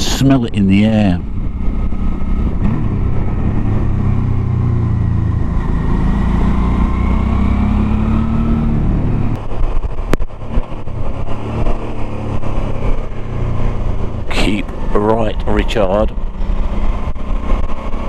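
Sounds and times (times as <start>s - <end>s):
motorcycle engine running: 1.2s - 18.0s.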